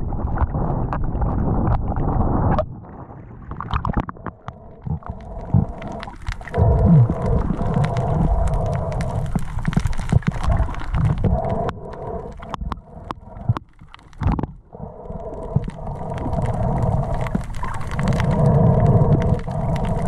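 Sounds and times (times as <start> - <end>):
underwater rumble: 0.0 - 20.0
sharp clicks and crackles: 3.5 - 20.0.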